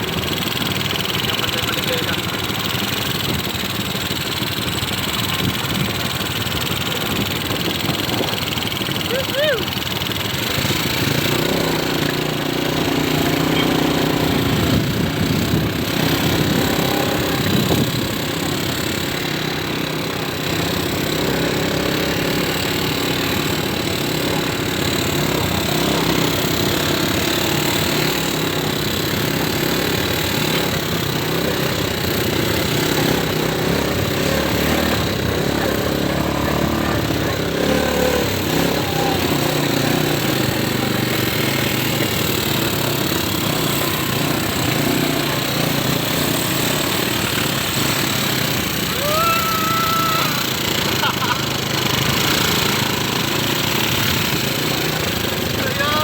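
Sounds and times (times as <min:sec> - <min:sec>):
atv engine rattling drone: 0:00.0 - 0:56.0.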